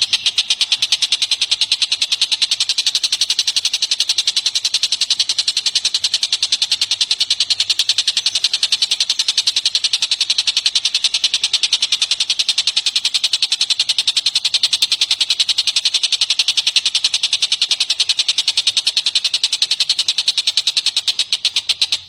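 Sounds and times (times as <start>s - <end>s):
bird rapid trill: 0.0s - 22.0s.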